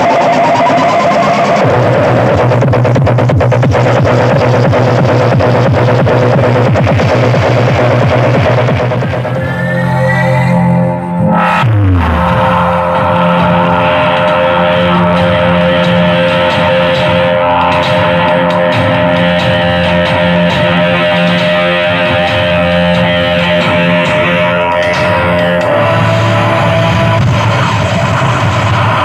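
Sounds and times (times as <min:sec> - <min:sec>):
loud guitar music over bass: 0:00.0 - 0:29.0.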